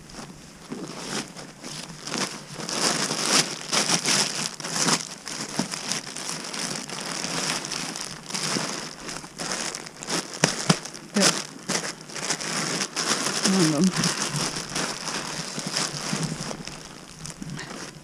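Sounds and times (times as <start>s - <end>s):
bags crinkling and rustling: 0.0s - 18.0s.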